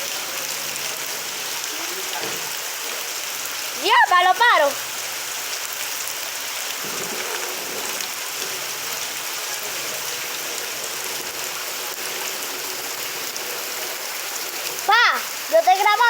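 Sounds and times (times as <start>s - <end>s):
rain pouring down: 0.0s - 16.0s.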